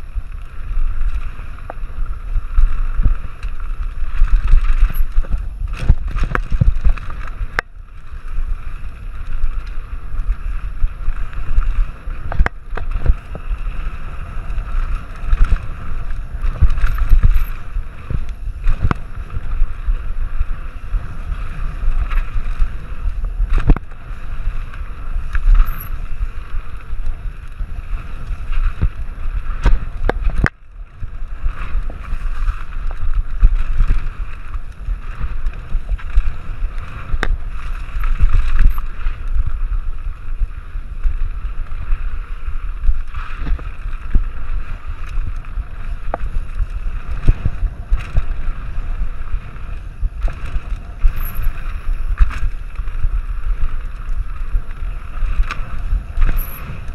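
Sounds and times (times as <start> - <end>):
mountain bike clattering on dirt: 0.0 - 56.9
wind on microphone: 0.0 - 56.9.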